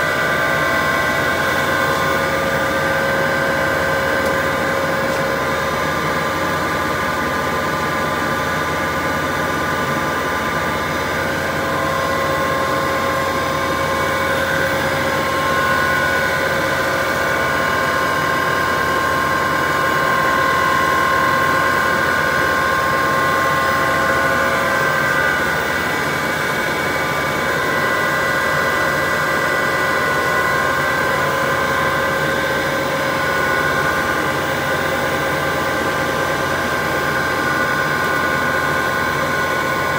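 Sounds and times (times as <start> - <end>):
machinery droning with motor whine: 0.0 - 39.9.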